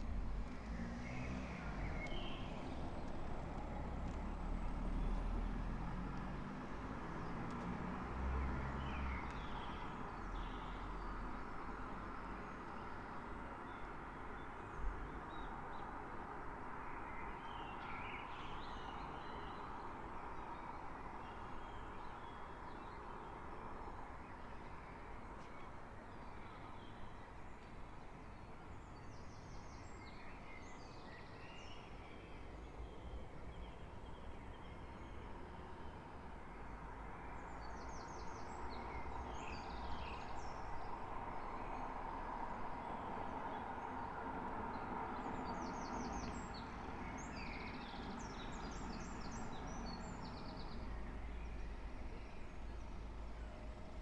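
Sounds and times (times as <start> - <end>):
distant traffic hum: 0.0 - 54.0
songbirds chirping and trilling: 0.0 - 54.0.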